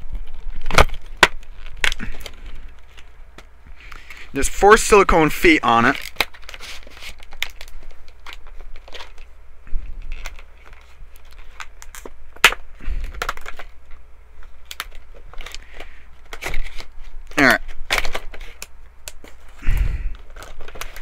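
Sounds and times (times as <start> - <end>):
plastic and cardboard crinkling: 0.0 - 21.0.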